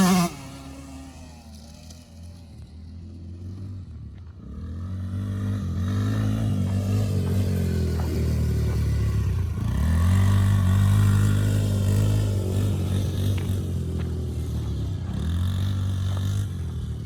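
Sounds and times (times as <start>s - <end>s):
small dirt bike engine revving: 0.0s - 17.0s.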